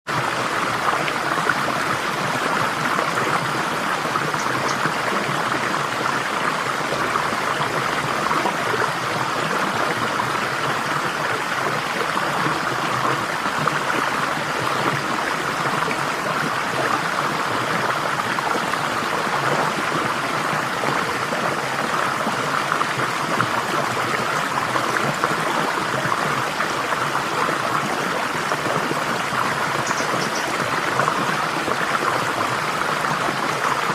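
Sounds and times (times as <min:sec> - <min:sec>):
water babbling in a stream: 0:00.1 - 0:33.9.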